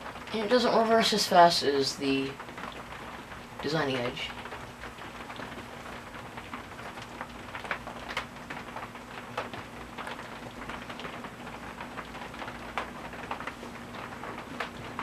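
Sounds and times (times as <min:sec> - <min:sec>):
ceiling fan motor humming: 0:00.0 - 0:15.0
rain tapping: 0:00.0 - 0:15.0.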